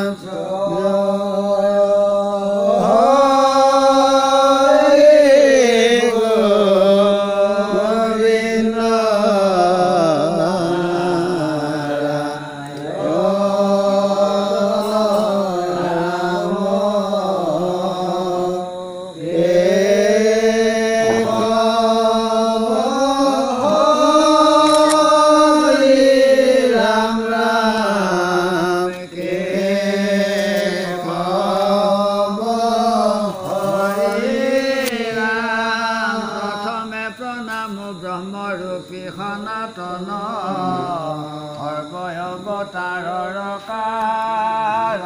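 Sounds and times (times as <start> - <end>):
man chanting devotional verses: 0.0 - 45.0.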